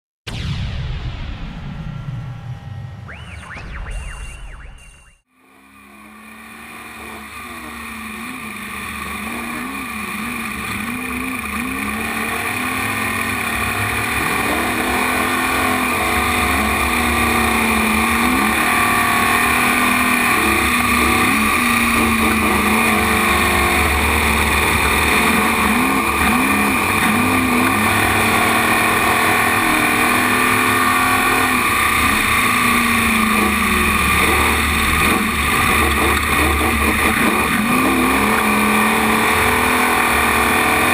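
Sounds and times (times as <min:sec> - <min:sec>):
truck engine revving: 0:05.4 - 0:40.9.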